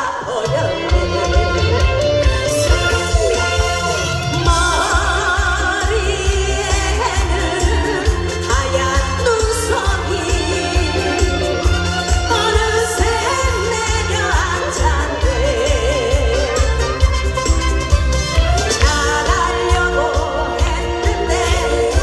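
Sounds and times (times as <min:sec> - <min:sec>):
person singing with vibrato: 0:00.0 - 0:22.0
backing track with bass beat: 0:00.4 - 0:22.0.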